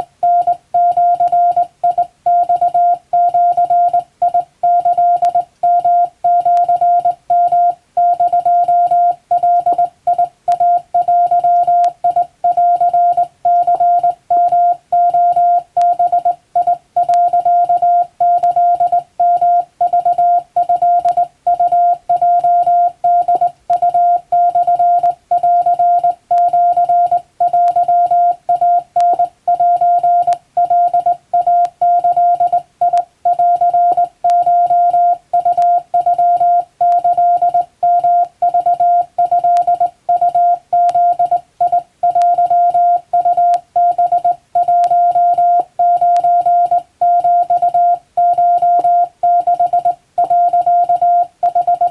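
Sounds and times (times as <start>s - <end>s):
morse code tones: 0.0s - 51.9s.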